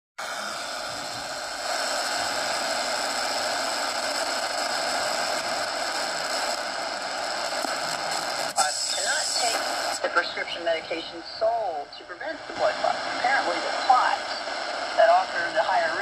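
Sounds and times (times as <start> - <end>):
radio static hiss: 0.2 - 16.0.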